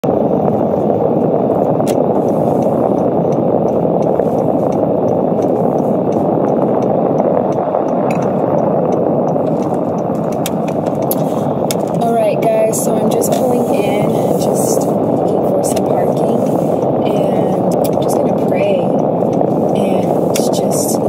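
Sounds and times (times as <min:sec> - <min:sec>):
road and engine noise: 0:00.0 - 0:21.0.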